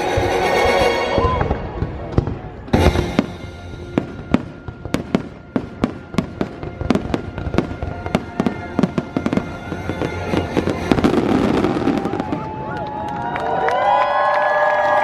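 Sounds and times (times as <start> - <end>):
music soundtrack: 0.0 - 12.7
fireworks cracking and banging: 0.0 - 13.4.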